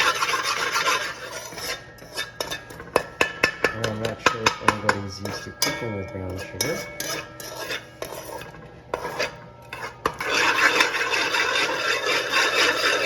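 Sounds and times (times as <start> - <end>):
spoon stirring in a pot: 0.0 - 13.0.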